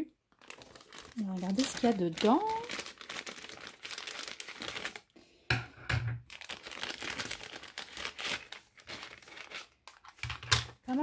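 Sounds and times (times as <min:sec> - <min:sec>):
plastic pouch crinkling: 0:00.3 - 0:05.2, 0:06.2 - 0:11.0.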